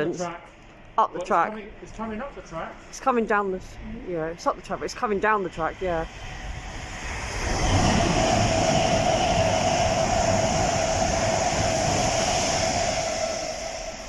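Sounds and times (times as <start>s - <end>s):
high whine of train: 0.0s - 14.0s
train wheels rumbling on rail: 1.6s - 14.0s.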